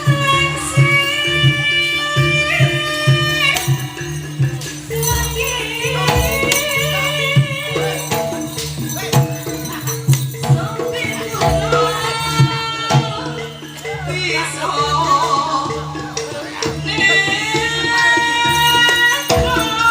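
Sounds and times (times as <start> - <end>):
drum strokes: 0.0 - 19.9.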